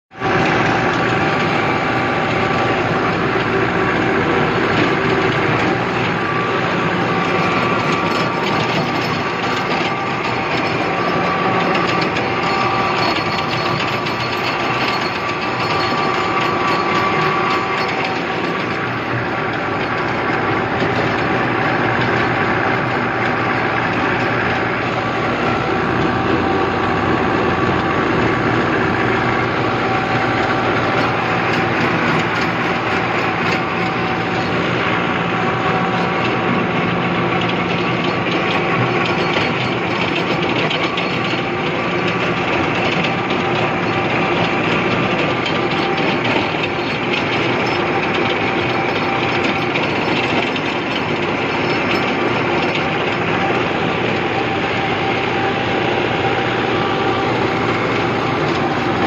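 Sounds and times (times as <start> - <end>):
tractor diesel engine running: 0.1 - 59.0
rotavator blades clattering: 0.2 - 59.0.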